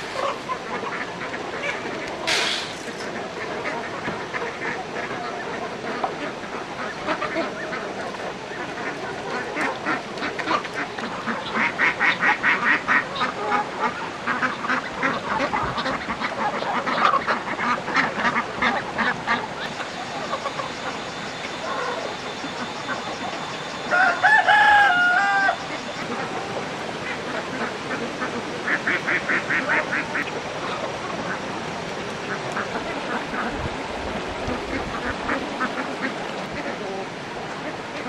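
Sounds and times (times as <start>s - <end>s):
poultry flock calling: 0.0s - 31.4s.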